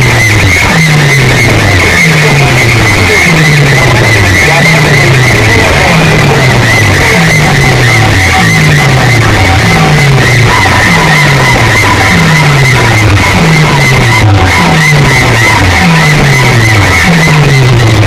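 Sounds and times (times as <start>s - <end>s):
deep falling bass slide: 0.0s - 18.0s
loud music from loudspeakers: 0.0s - 18.0s
warbling high tone: 0.0s - 18.0s.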